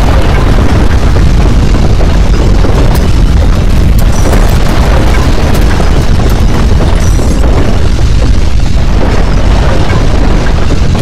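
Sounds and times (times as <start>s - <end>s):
earthquake deep rumble: 0.0s - 11.0s
rattling and clattering: 0.0s - 11.0s.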